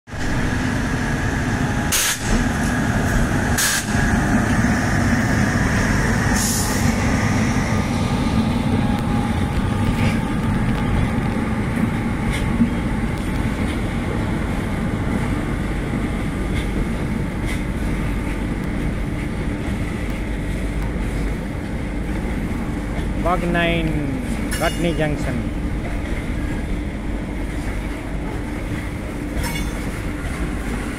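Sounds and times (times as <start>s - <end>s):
electric locomotive whine: 0.1s - 30.9s.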